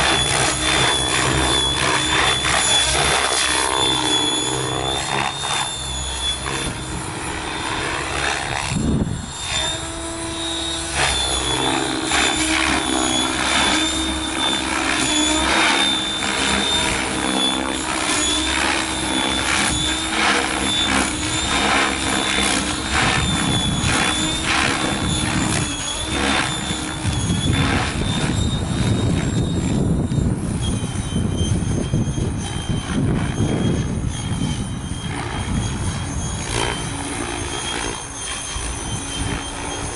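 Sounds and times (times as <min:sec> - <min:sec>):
rc helicopter motor whine: 0:00.0 - 0:39.9
rotor blade whooshes: 0:00.0 - 0:39.9.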